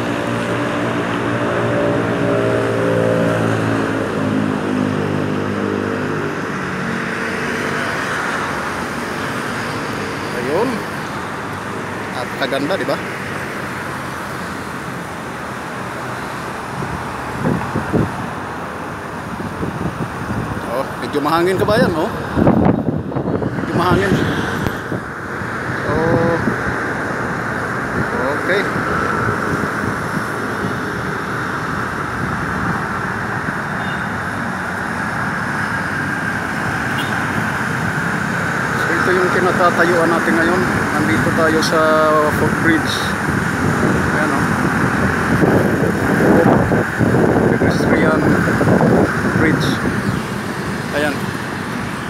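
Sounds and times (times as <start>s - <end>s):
road traffic noise: 0.0s - 52.0s
wind gusts on microphone: 0.0s - 52.0s.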